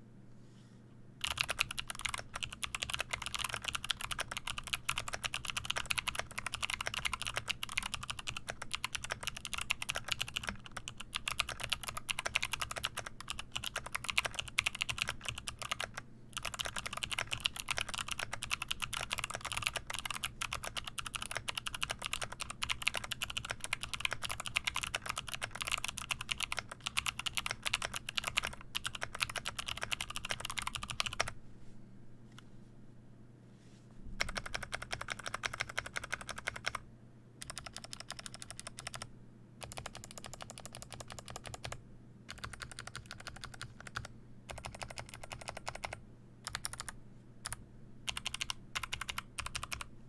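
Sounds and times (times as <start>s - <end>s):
clicky mechanical keyboard typing: 1.2s - 31.4s, 34.2s - 36.8s, 37.4s - 49.9s.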